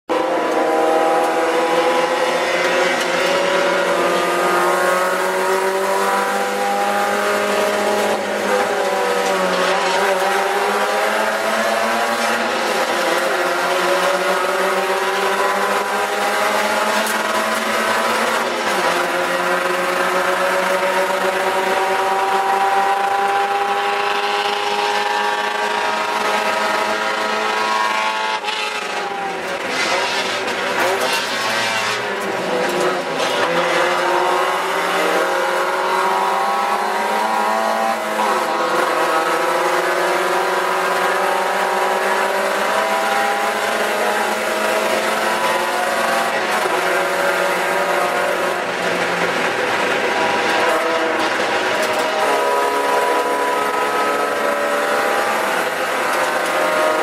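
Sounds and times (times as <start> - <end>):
car engine accelerating: 0.1 - 57.0.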